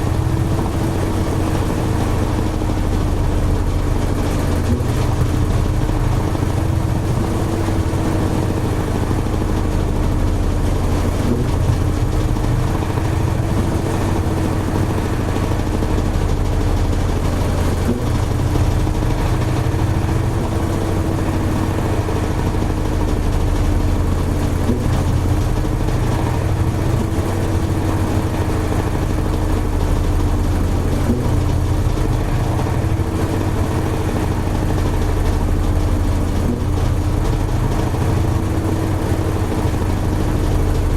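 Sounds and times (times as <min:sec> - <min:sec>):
washing machine spin cycle: 0:00.0 - 0:40.9.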